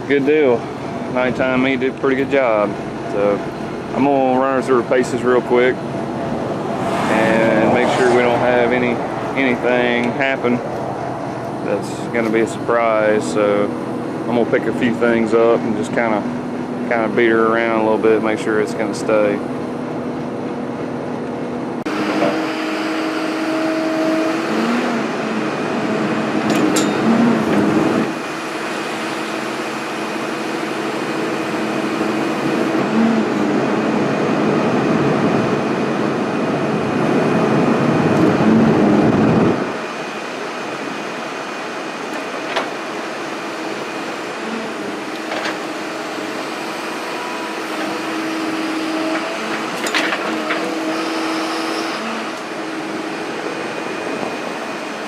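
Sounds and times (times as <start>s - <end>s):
hydraulics working: 0.0s - 35.4s, 37.9s - 55.0s
excavator diesel engine: 0.0s - 55.0s.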